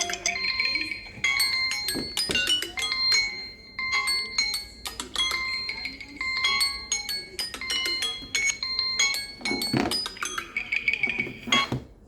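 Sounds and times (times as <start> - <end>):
chiming electronic ringtones: 0.0 - 11.7.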